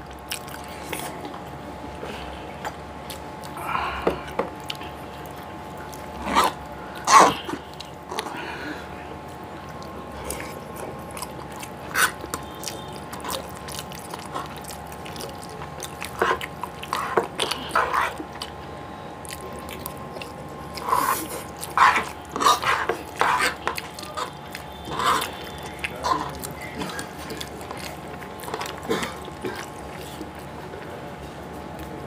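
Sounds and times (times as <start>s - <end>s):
faint steady hum: 0.0s - 32.0s
slurping and chewing: 0.1s - 31.9s.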